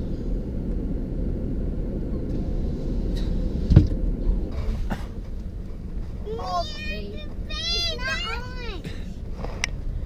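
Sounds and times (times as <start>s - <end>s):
truck engine rumble from cab: 0.0s - 10.0s.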